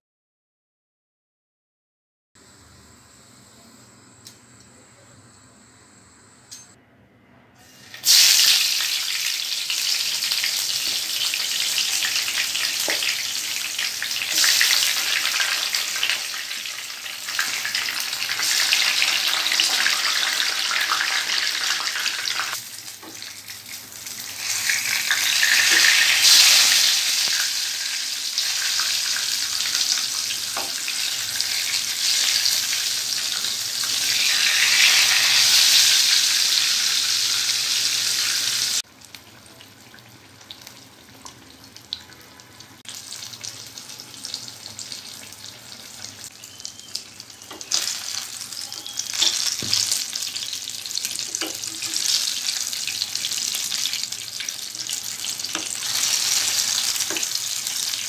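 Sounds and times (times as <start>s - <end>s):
eggplant slices sizzling in oil: 7.7s - 58.0s.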